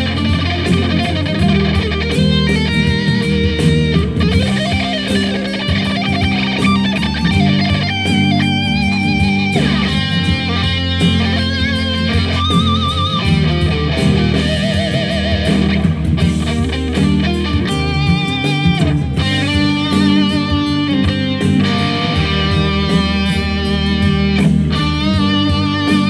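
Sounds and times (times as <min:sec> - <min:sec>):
electric guitar lead melody: 0:00.0 - 0:26.0
steady low notes: 0:00.0 - 0:26.0.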